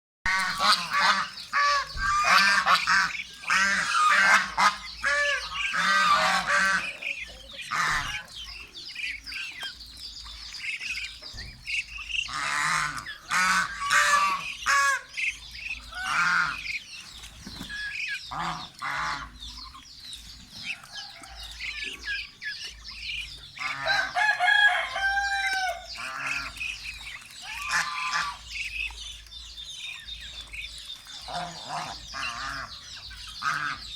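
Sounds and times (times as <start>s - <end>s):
geese honking: 0.3s - 9.7s, 10.3s - 19.8s, 20.6s - 29.0s, 31.0s - 33.9s
ducks and chickens calling: 0.3s - 33.9s.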